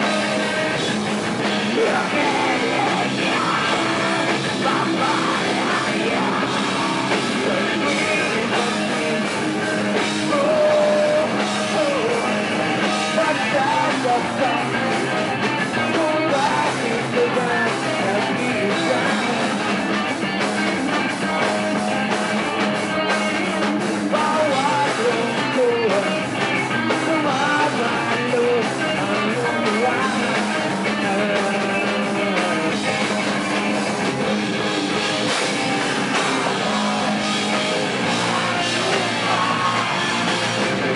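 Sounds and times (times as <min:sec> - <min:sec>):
person singing: 0:00.0 - 0:20.1, 0:23.0 - 0:33.8, 0:35.9 - 0:40.9
distorted electric guitars: 0:00.0 - 0:40.9
drum kit: 0:00.0 - 0:40.9.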